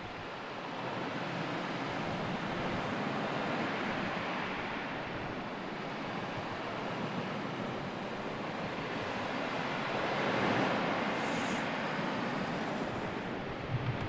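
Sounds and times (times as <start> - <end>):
surf washing onto shore: 0.3 - 14.0.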